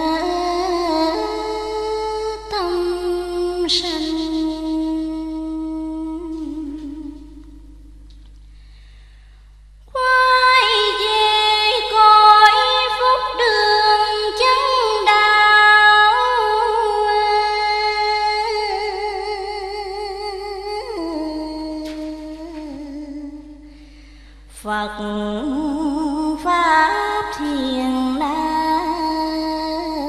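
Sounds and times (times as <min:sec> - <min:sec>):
woman chanting verse: 0:00.0 - 0:07.7, 0:09.9 - 0:23.8, 0:24.5 - 0:30.0.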